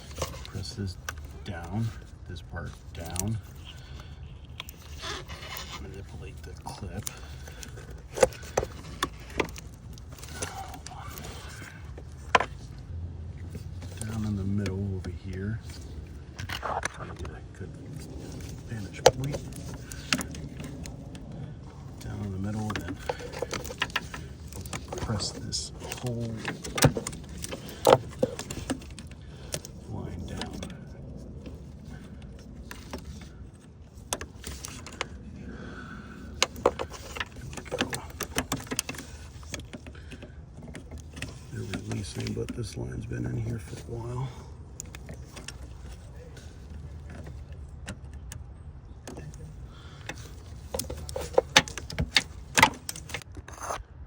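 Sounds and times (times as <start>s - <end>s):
low background rumble: 0.0s - 54.0s
low steady hum: 0.0s - 54.0s.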